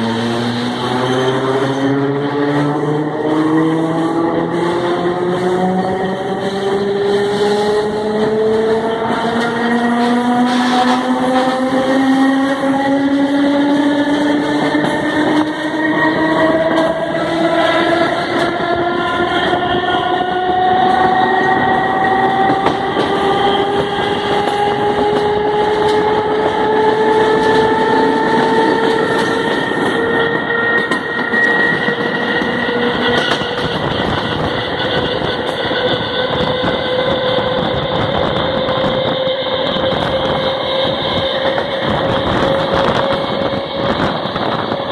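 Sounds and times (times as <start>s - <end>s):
electric train motors whining: 0.0s - 44.9s
wheels clattering on rail: 0.0s - 44.9s.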